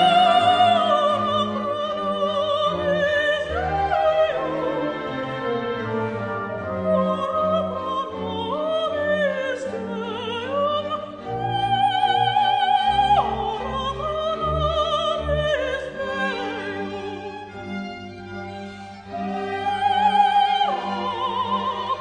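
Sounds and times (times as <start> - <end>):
operatic singing: 0.0 - 18.0, 18.7 - 22.0
orchestral accompaniment: 0.0 - 22.0.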